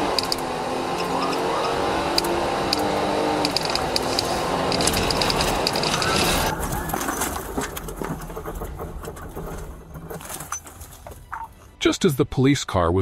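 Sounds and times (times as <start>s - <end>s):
road and engine noise: 0.0s - 11.8s.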